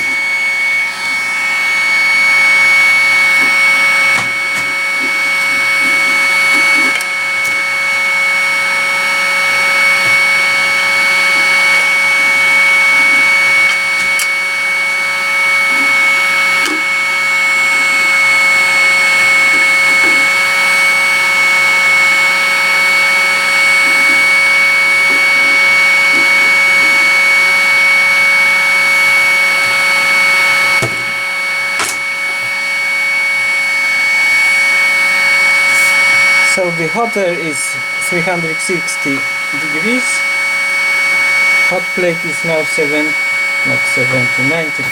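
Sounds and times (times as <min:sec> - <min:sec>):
high fan whine: 0:00.0 - 0:44.9
hot air station rushing hiss: 0:00.0 - 0:44.9.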